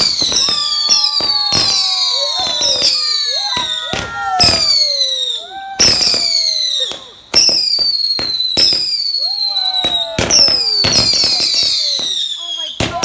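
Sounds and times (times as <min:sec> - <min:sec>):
falling firework whistles: 0:00.0 - 0:13.0
firework bangs and cracks: 0:00.0 - 0:13.0.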